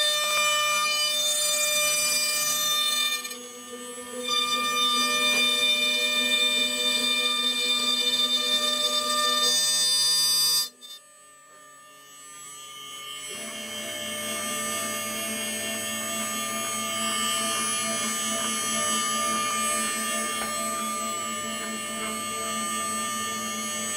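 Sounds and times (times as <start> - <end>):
cnc router whining: 0.0 - 23.9.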